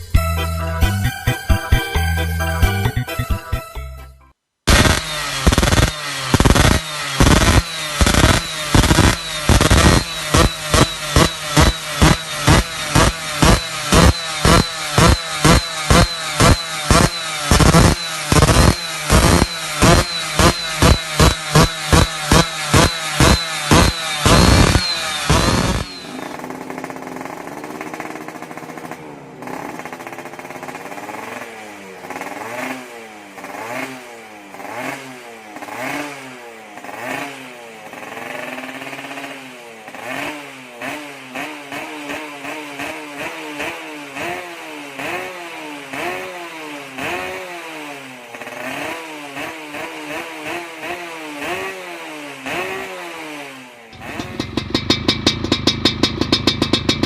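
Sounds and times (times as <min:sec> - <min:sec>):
two-stroke engine revving: 0:04.7 - 0:57.0.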